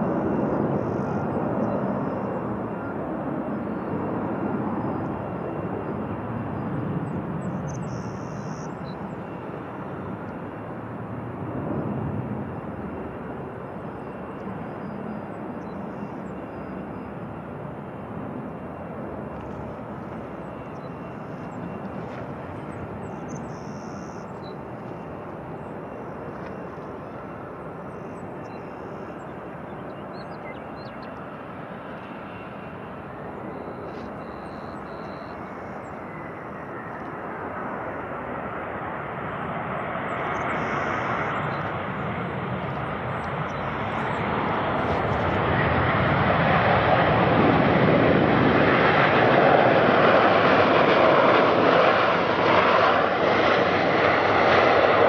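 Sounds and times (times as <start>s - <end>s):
jet airliner engine rush: 0.0s - 55.0s.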